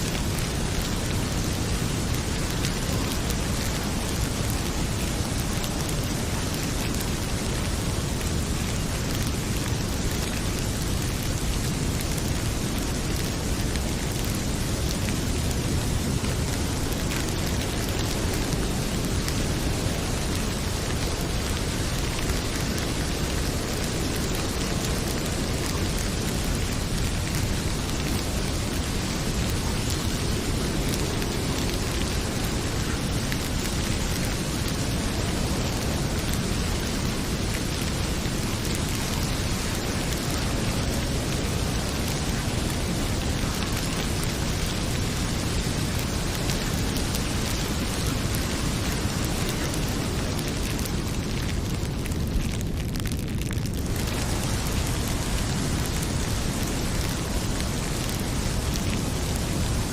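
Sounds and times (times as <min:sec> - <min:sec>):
fireplace crackling: 0:00.0 - 0:59.9
heavy rain pouring: 0:00.0 - 0:59.9.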